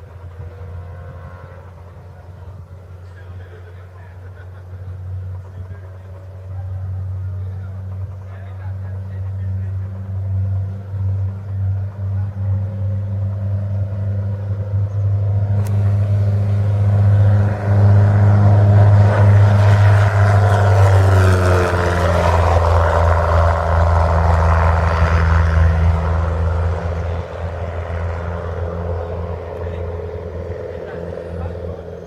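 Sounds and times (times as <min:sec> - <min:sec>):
propeller plane flying past: 0:00.0 - 0:32.0.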